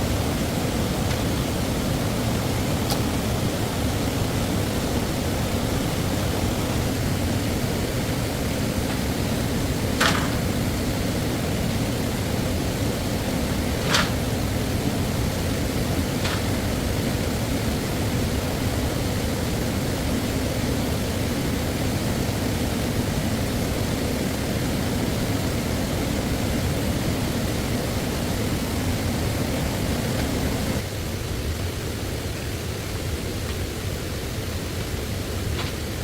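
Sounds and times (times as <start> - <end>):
stream water rushing: 0.0 - 36.0.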